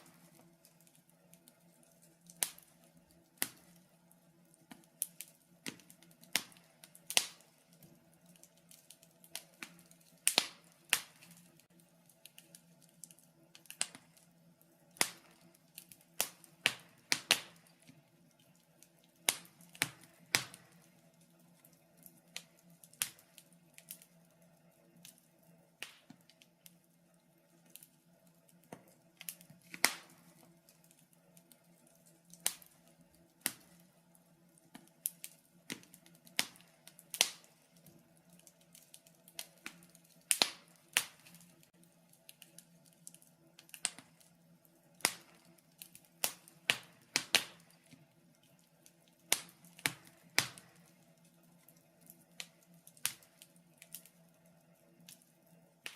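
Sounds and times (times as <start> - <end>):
faint steady hum: 0.0 - 55.9
wood fire crackling: 0.0 - 55.9.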